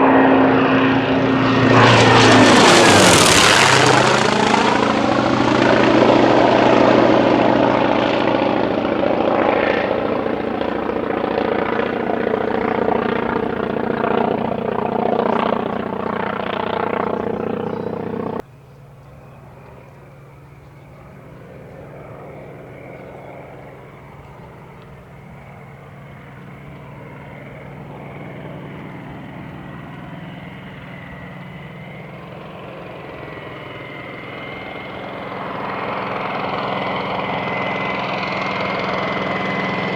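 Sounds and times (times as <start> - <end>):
propeller plane passing low: 0.0 - 39.9.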